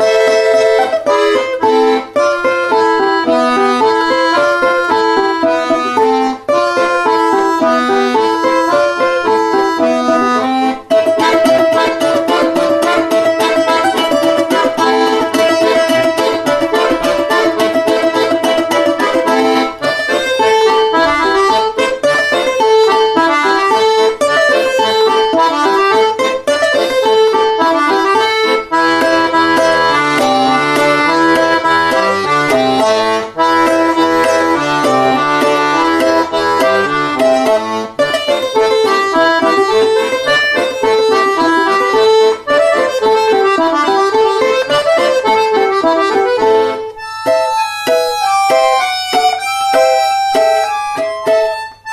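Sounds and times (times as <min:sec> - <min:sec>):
accordion bass line: 0:00.0 - 0:51.9
accordion melody: 0:00.0 - 0:51.9.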